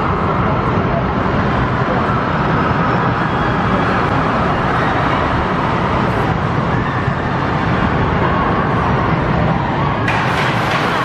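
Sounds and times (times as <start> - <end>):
indoor amusement hall background noise: 0.0 - 11.0
roller coaster rolling on track: 0.0 - 11.0.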